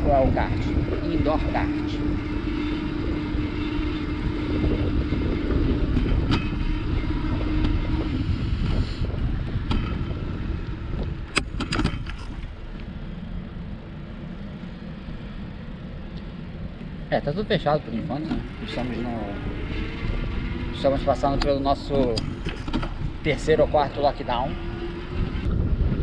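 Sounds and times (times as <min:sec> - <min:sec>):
bicycle rolling on pavement: 0:00.0 - 0:26.0
steady hum: 0:00.0 - 0:26.0
wind buffeting microphone: 0:00.0 - 0:26.0.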